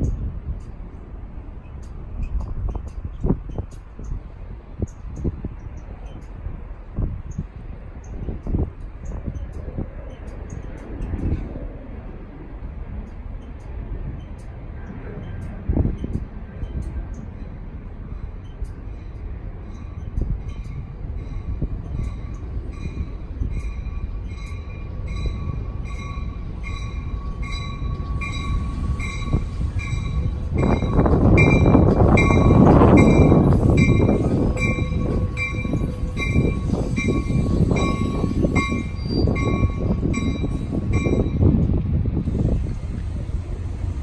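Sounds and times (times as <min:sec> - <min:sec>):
passing train rumble: 0:00.0 - 0:44.0.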